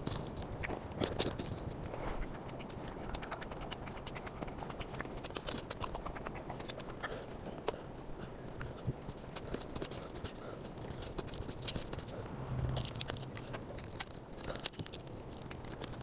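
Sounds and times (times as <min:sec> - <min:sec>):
chewing and mouth noises: 0:00.0 - 0:16.0.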